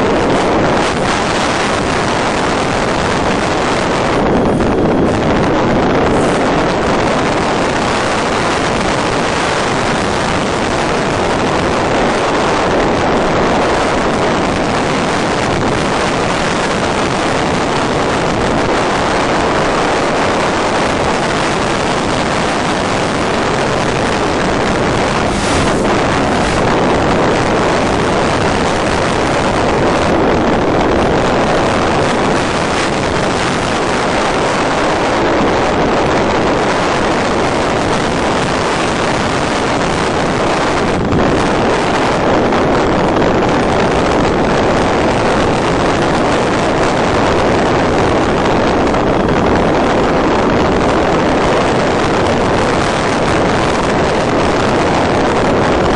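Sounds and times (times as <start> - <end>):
wind rushing over microphone: 0.0 - 55.9.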